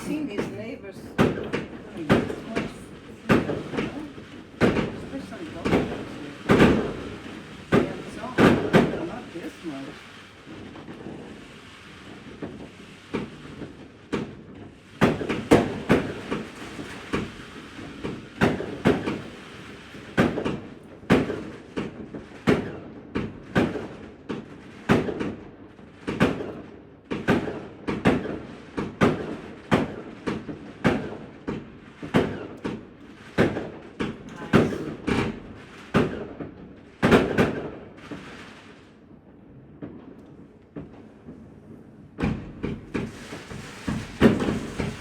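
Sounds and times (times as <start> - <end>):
firecrackers banging: 0.0 - 45.0.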